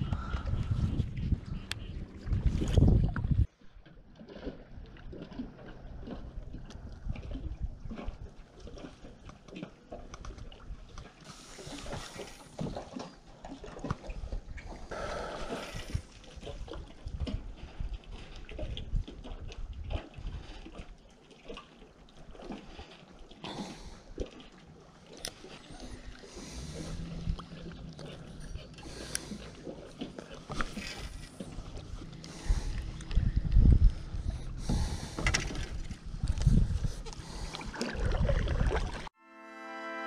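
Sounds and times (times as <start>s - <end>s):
splashing: 0.0s - 39.2s
water lapping around a kayak: 0.0s - 39.2s.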